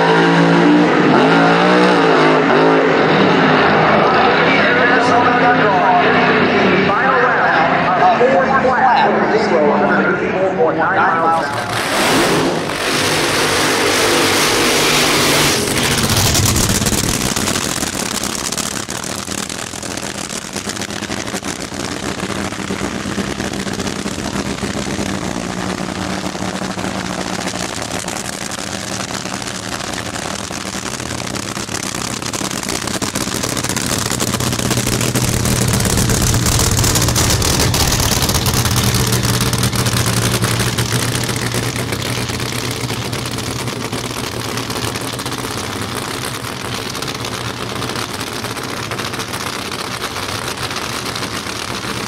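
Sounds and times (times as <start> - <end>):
car engine roaring and rumbling: 0.0 - 52.0.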